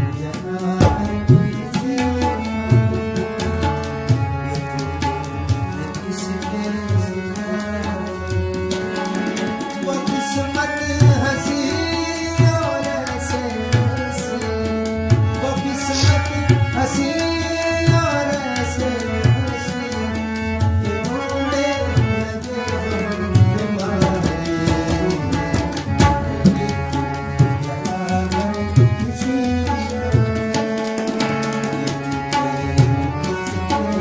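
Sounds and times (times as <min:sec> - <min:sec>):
harmonium melody: 0:00.0 - 0:34.0
tabla strokes: 0:00.0 - 0:34.0.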